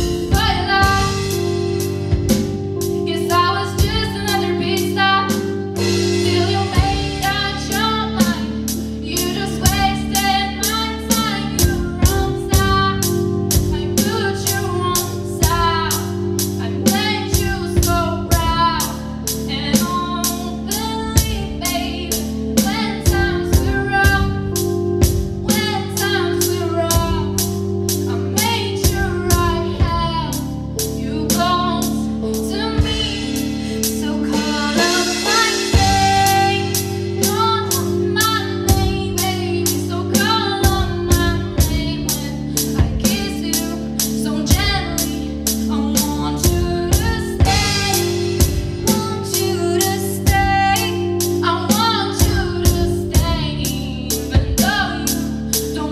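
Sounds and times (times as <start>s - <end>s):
woman singing lead vocal: 0.0s - 1.7s, 2.9s - 55.9s
drum kit beat: 0.0s - 55.8s
keyboard: 0.0s - 55.9s.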